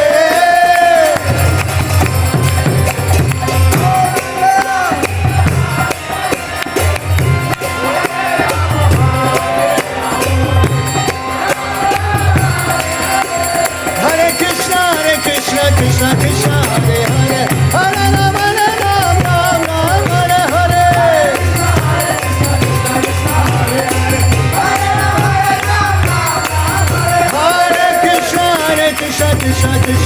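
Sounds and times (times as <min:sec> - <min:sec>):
jingling hand cymbals: 0:00.0 - 0:30.0
rhythmic drum: 0:00.0 - 0:30.0
voices chanting: 0:03.7 - 0:29.7.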